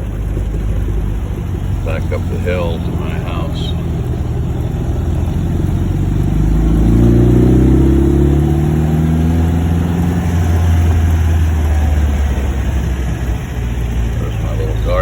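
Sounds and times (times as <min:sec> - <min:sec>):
car engine pulling uphill: 0:00.0 - 0:15.0.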